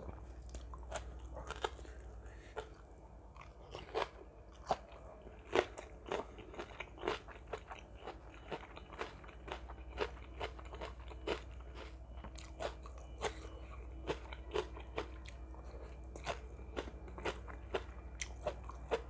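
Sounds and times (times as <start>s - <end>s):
faint low hum: 0.0s - 19.0s
person chewing crunchy food: 0.0s - 19.0s.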